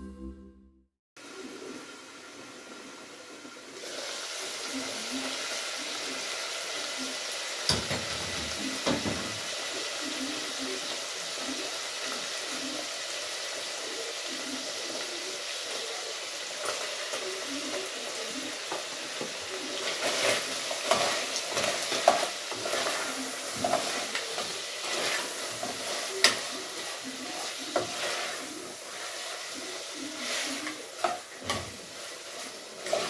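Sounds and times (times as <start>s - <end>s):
food sizzling in oil: 1.2s - 33.0s.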